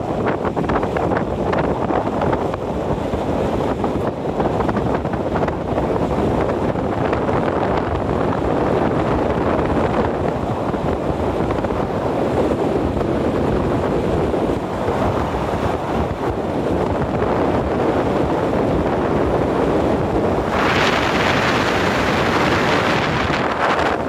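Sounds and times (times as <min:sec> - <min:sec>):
wind rushing: 0:00.0 - 0:24.0.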